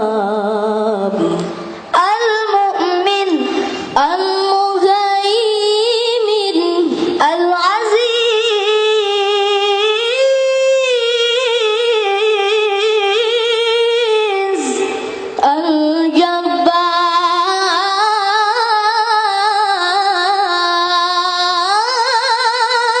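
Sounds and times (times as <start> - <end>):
child reciting melodically: 0.0 - 23.0.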